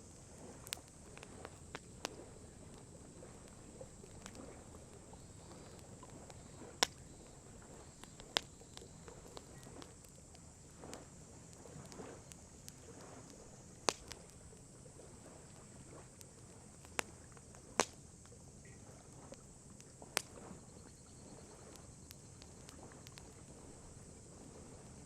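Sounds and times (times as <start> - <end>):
campfire crackling and popping: 0.0 - 25.0
faint steady hiss: 0.0 - 25.0.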